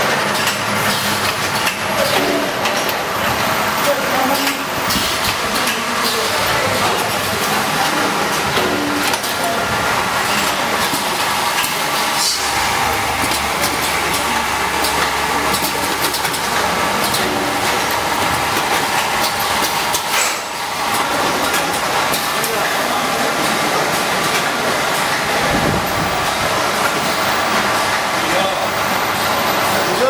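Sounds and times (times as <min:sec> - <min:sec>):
packaging machine din: 0:00.0 - 0:30.0.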